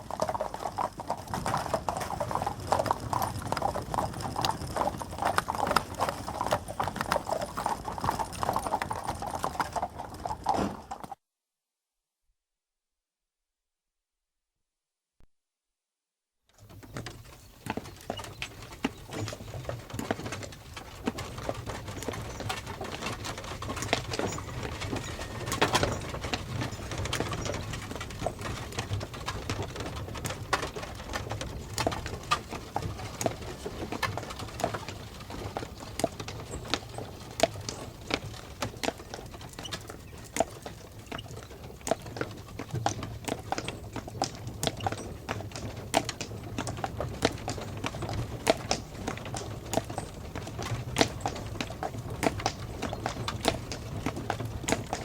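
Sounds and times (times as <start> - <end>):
horse hooves clip-clopping: 0.0 - 11.2, 16.6 - 55.0.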